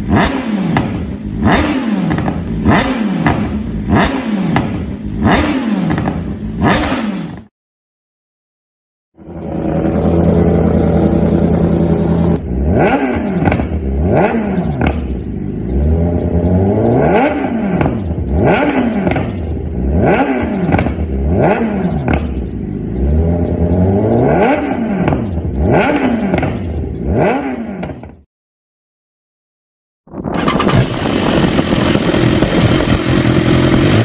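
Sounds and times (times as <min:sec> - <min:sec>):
motorcycle engine revving: 0:00.0 - 0:07.5, 0:09.2 - 0:28.3, 0:30.1 - 0:34.0.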